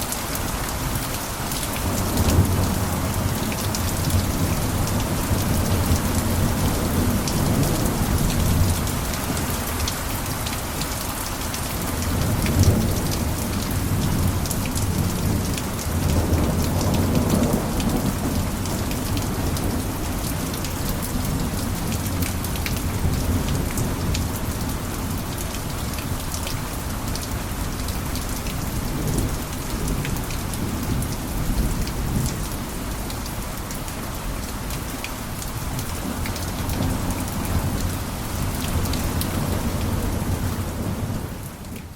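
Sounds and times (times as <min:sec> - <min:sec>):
heavy rain on a roof: 0:00.0 - 0:41.9.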